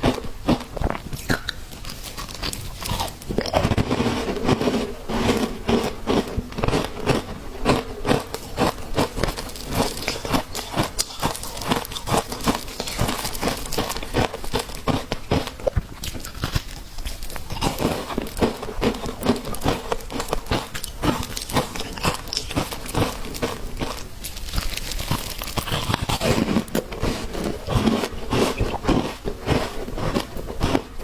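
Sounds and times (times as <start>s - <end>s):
ice being chewed: 0.0s - 31.0s.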